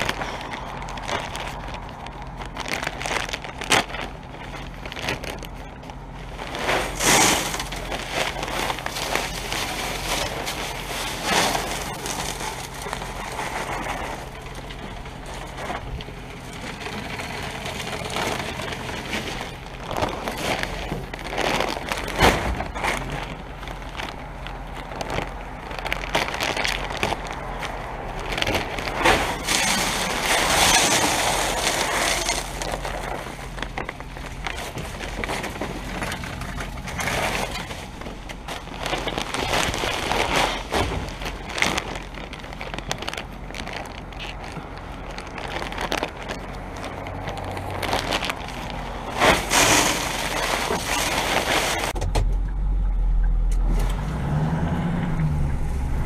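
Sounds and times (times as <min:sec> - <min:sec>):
truck engine hum: 0:00.0 - 0:56.0
rock salt spreading rush: 0:06.2 - 0:52.0.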